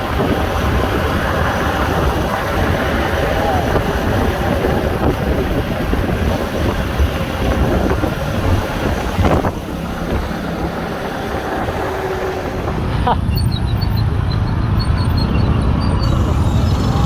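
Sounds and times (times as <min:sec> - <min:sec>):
wind buffeting microphone: 0:00.0 - 0:14.2
road traffic rumble: 0:00.0 - 0:17.0.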